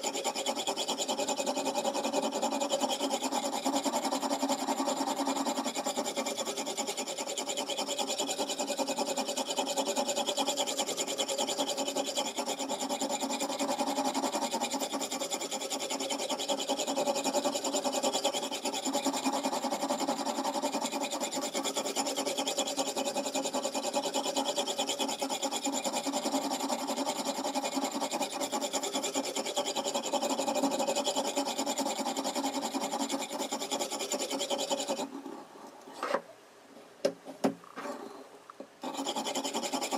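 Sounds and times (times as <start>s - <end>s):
knife scraping on whetstone: 0.0s - 36.2s, 38.8s - 39.9s.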